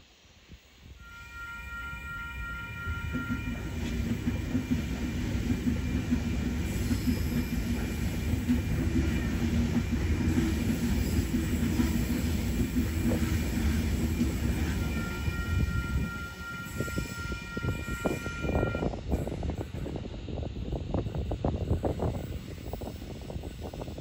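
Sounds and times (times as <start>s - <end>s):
train wheels rumbling on rails: 0.5s - 24.0s.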